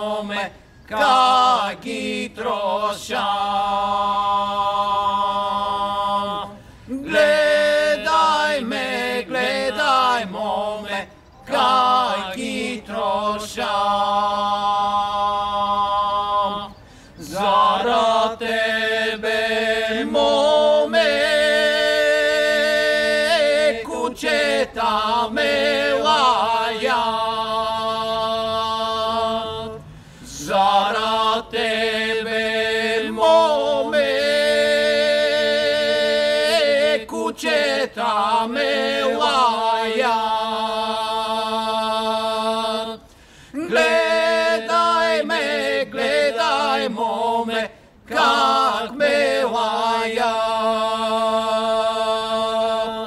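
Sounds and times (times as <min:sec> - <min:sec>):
men singing a cappella: 0:00.0 - 0:53.0.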